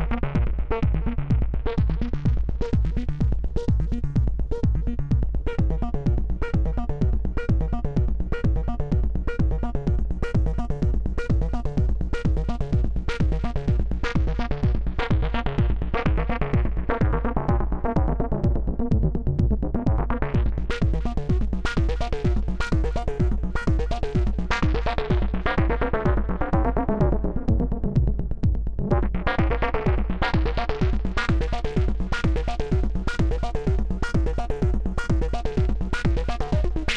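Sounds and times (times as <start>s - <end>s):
techno drum beat: 0.0s - 36.9s.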